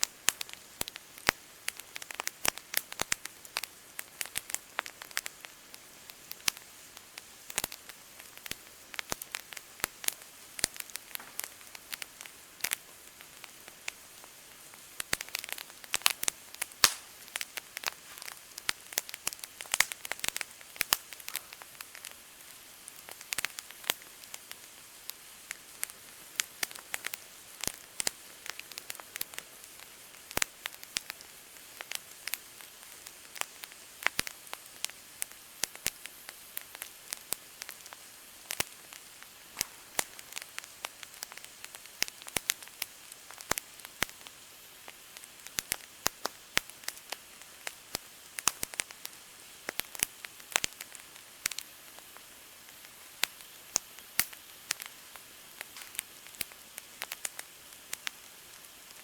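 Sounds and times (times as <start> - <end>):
campfire crackling and popping: 0.0 - 59.0
faint steady hiss: 0.0 - 59.0.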